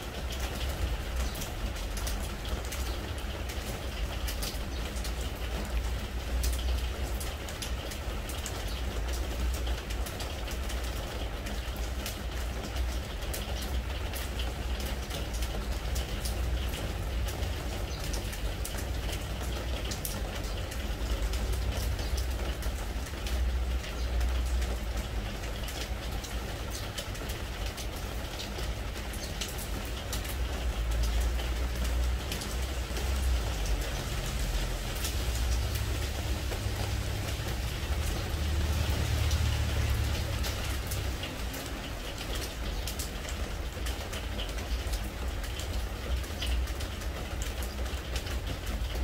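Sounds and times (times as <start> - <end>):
rain pattering on wooden deck: 0.0 - 49.0.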